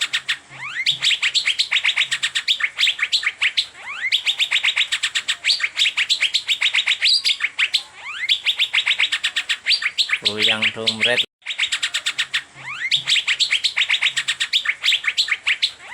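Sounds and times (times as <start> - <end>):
bird singing sharp chirps: 0.0 - 15.9.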